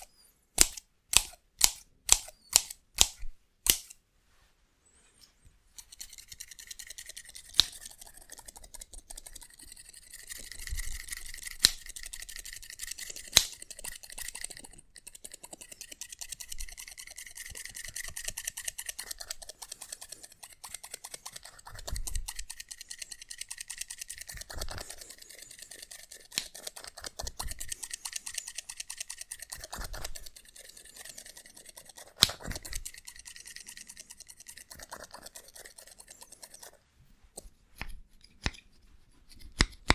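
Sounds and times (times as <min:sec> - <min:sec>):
scissors snipping rapidly: 0:00.0 - 0:04.0, 0:05.8 - 0:36.8, 0:39.3 - 0:39.9.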